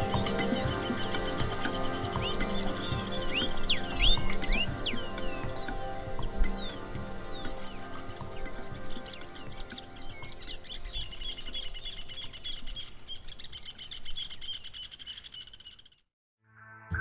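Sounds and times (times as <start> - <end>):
soft background music: 0.0 - 13.8
birds chirping: 0.0 - 16.1.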